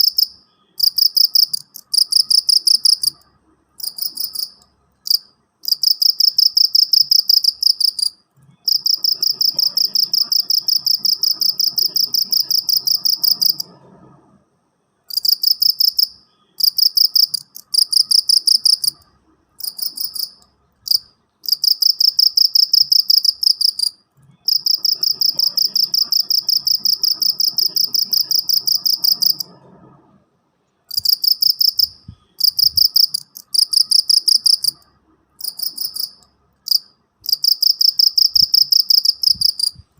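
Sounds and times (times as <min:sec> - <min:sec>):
cricket chirping: 0:00.0 - 0:14.0, 0:15.0 - 0:29.8, 0:30.9 - 0:39.9.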